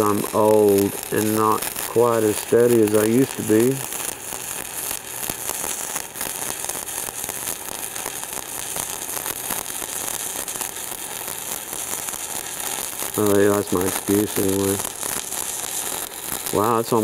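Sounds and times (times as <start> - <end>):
welding arc crackling sizzle: 0.0 - 17.0.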